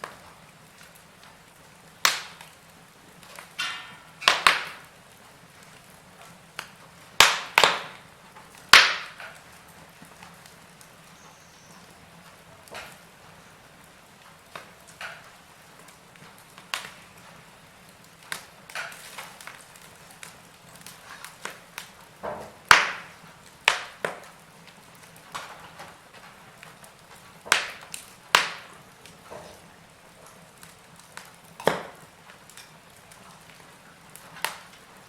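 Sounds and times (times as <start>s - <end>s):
firewood crackling and popping: 0.0s - 35.0s.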